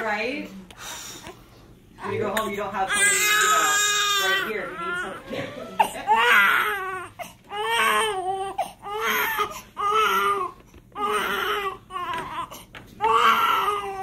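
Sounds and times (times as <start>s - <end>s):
newborn baby crying: 2.0s - 14.0s.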